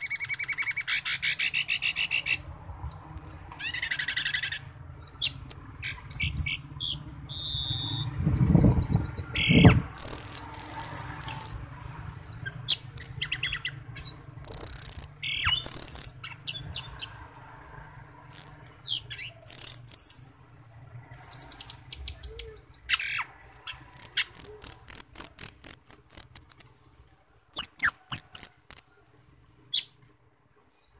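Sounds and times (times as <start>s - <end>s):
starling singing: 0.0s - 30.0s.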